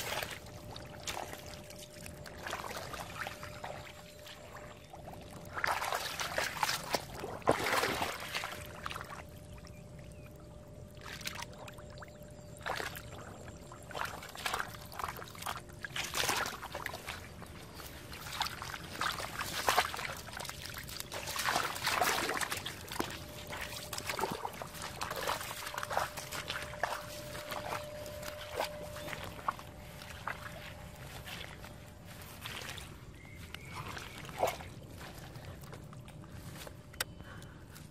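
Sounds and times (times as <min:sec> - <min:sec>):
hands digging in wet mud: 0:00.0 - 0:09.2, 0:12.6 - 0:37.2.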